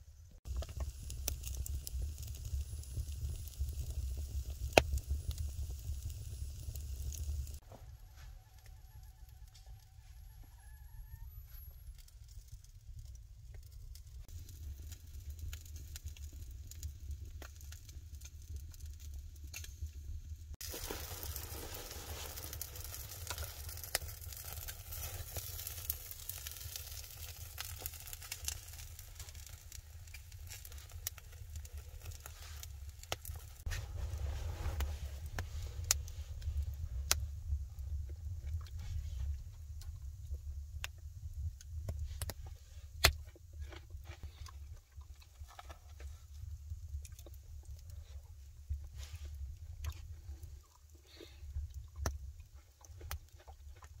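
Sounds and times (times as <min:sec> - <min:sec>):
wood fire crackling and hissing: 0:00.0 - 0:54.0.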